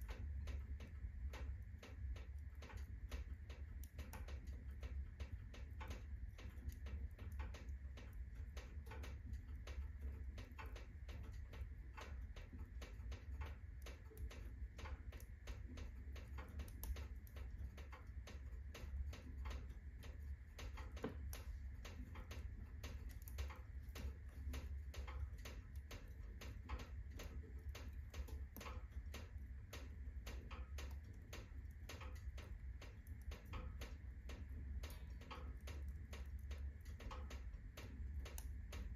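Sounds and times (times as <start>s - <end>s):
firewood crackling and popping: 0.0s - 38.9s
low rumble of fire: 0.0s - 38.9s.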